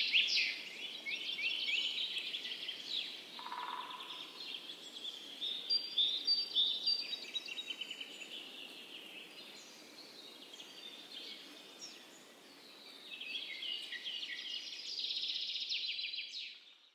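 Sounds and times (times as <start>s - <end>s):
faint outdoor hiss: 0.0s - 16.9s.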